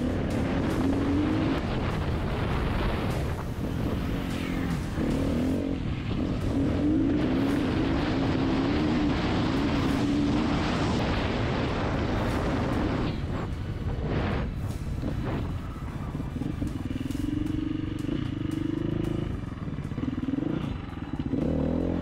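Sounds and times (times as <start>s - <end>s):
wind rush on microphone: 0.0s - 18.4s
motorcycle engine revving: 0.0s - 22.0s.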